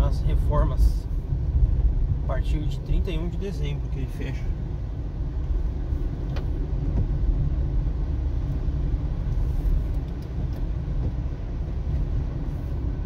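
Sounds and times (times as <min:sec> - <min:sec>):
car interior engine and road rumble: 0:00.0 - 0:13.0.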